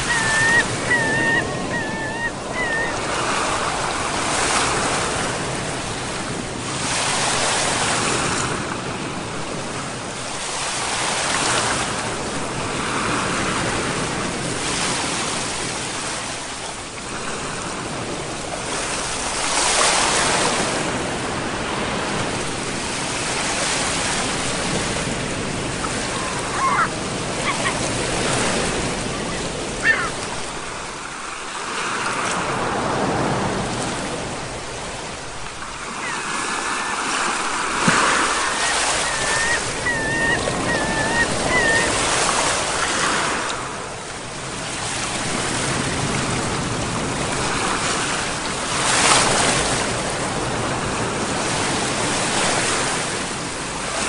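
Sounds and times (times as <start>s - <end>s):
waves breaking: 0.0s - 54.0s.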